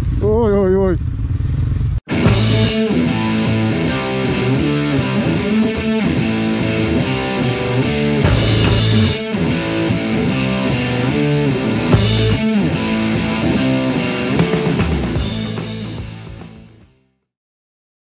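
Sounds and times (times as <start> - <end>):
bass line: 0.0 - 17.0
distorted electric guitar riff: 2.1 - 17.1.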